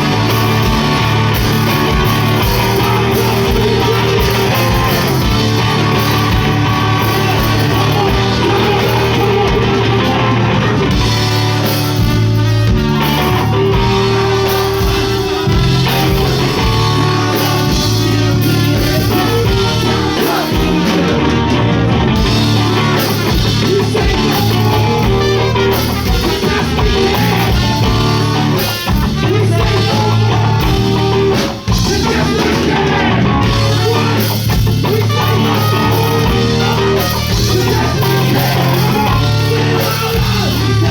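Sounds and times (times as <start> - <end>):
drum kit: 0.0 - 40.9
electric guitar: 0.0 - 40.9
live rock band playing: 0.0 - 40.9.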